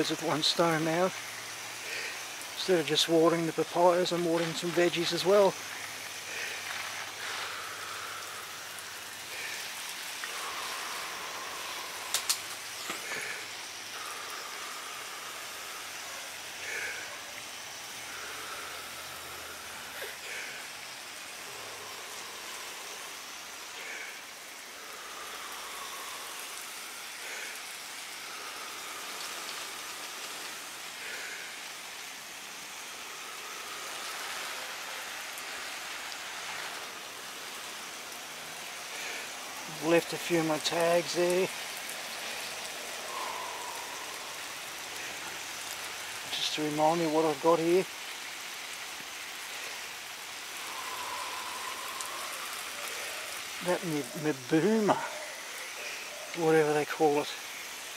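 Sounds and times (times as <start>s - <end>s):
water spraying on plants: 0.0s - 57.9s.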